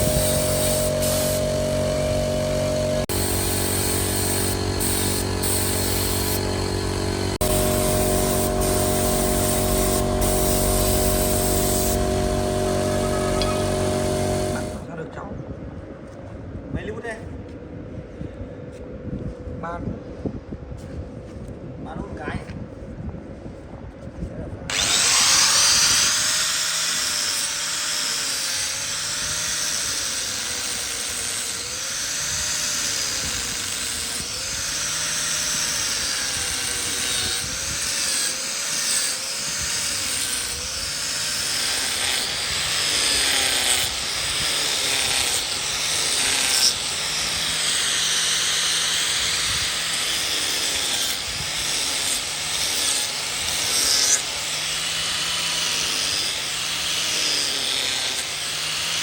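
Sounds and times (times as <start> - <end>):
power tool cutting wood: 0.0 - 14.9, 24.7 - 59.0.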